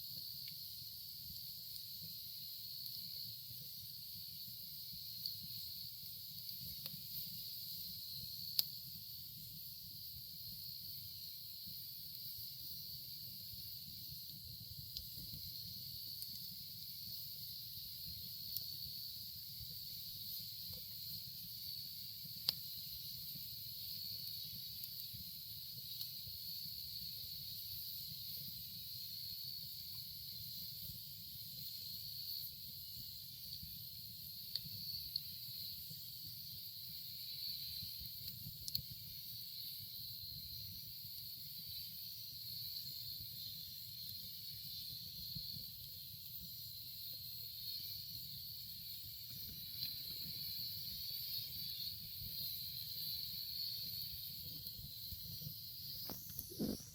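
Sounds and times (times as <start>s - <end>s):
fire crackling and popping: 0.0s - 56.9s
wood campfire burning: 0.0s - 56.9s.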